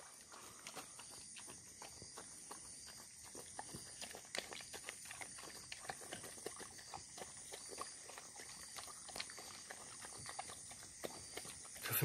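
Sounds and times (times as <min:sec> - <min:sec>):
dogs eating smacking and chewing: 0:00.2 - 0:12.0.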